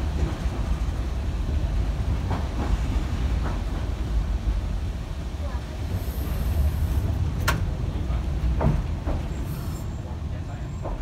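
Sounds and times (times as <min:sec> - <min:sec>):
streetcar motors and wheels rumbling: 0:00.0 - 0:11.0.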